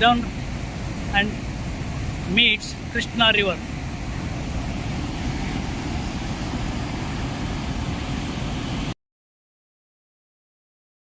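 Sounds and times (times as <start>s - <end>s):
rushing noise with low rumble: 0.0s - 9.0s.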